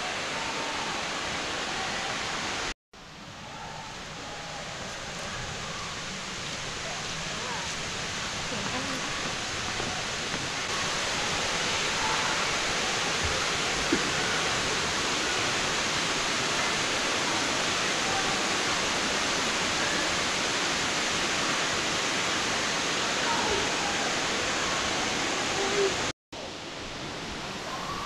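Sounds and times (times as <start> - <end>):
waterfall rushing: 0.0 - 2.7, 3.3 - 28.0.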